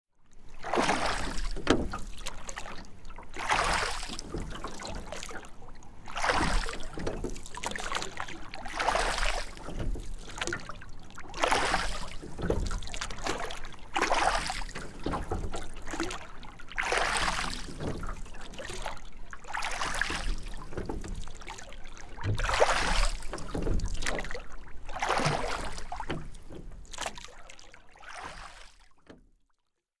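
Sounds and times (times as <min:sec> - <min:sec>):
oars splashing through water: 0:00.3 - 0:29.2.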